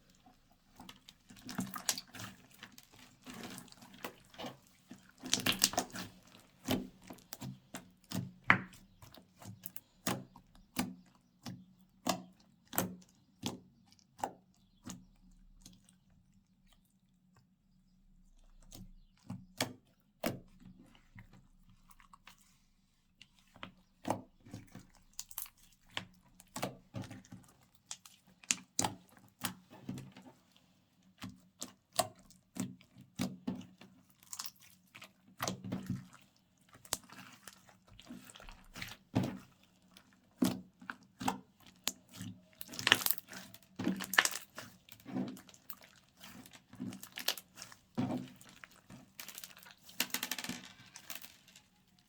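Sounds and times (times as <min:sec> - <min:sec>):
slime squishing: 0:00.0 - 0:17.0, 0:18.1 - 0:50.1.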